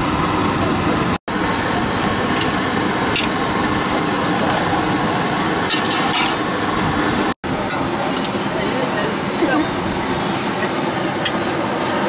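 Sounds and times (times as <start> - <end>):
motorcycle road and wind noise: 0.0 - 12.0.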